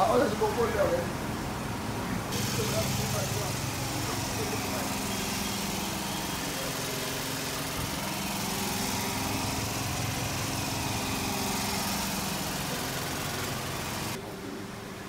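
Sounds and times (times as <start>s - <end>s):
small engine running: 0.0s - 14.4s
outdoor background noise: 0.0s - 15.0s.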